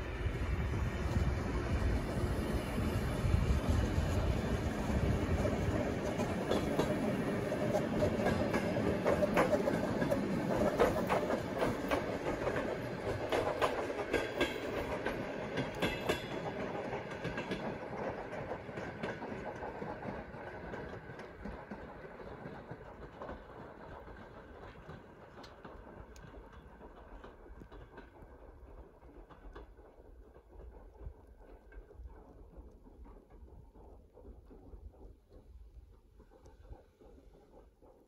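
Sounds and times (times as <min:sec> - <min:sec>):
sharp clicks of train: 0:00.0 - 0:38.0
train rumbling past: 0:00.0 - 0:38.0.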